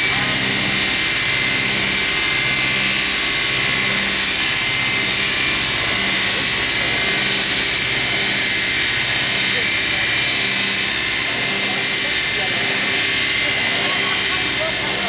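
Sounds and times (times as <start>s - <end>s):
circular ripsaw running: 0.0s - 15.0s.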